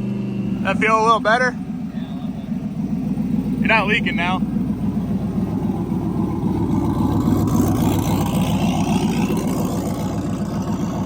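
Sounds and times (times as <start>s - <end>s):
truck engine with pulsing exhaust: 0.0s - 11.0s.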